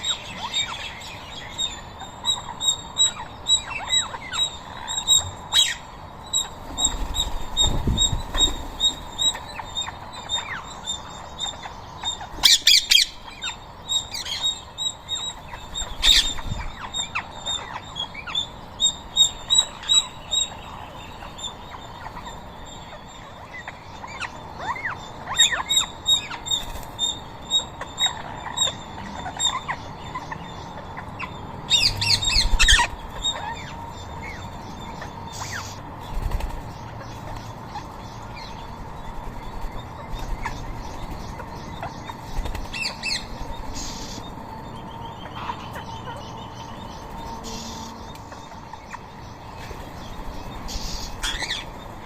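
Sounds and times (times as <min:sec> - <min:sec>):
parakeets squawking and chirping: 0:00.0 - 0:52.0.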